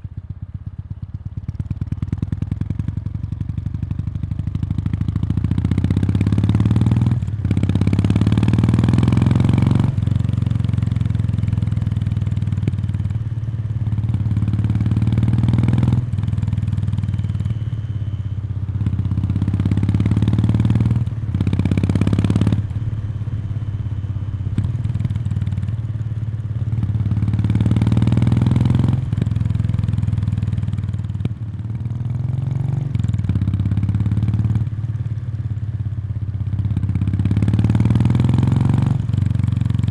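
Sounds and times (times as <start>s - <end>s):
motorcycle engine revving: 4.8s - 17.9s, 18.5s - 34.9s, 36.8s - 39.9s.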